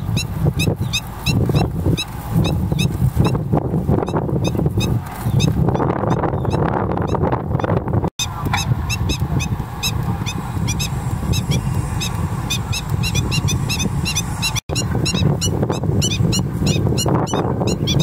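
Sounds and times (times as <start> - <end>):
high-pitched bird calls: 0.0 - 3.4, 4.0 - 18.0.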